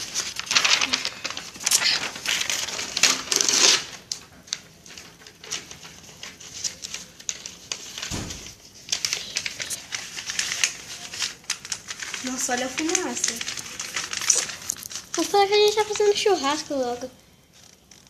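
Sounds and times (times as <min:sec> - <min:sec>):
paper being crumpled: 0:00.0 - 0:18.0.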